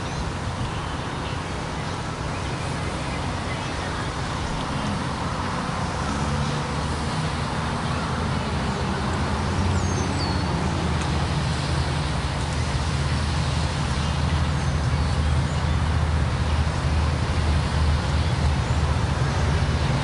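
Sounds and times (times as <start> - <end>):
low engine drone: 0.0 - 20.0
traffic noise: 0.0 - 20.0.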